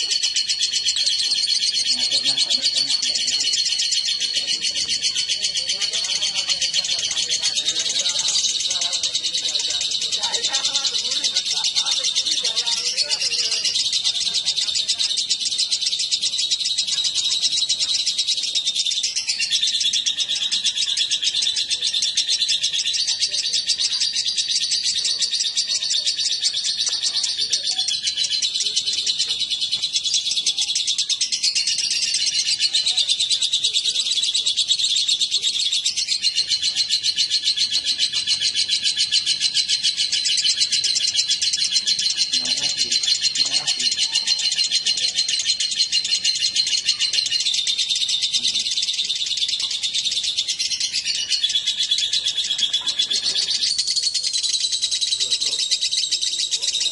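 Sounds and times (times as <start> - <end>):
lovebirds chattering: 0.0 - 56.9.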